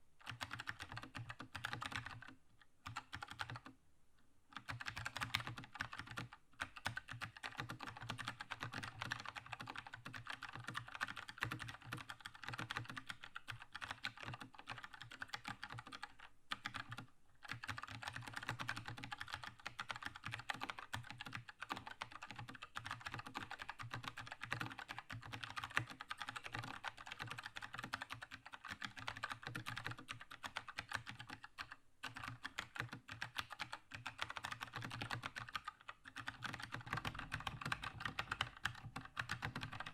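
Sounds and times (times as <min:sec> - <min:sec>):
mechanical keyboard typing: 0:00.2 - 0:03.7, 0:04.6 - 0:39.9.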